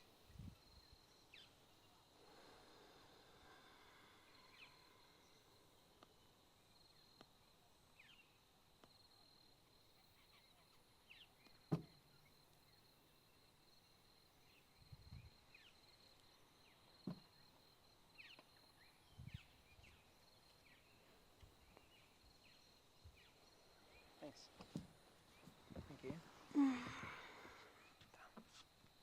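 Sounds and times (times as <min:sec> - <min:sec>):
faint bird chirps: 0:00.3 - 0:28.8.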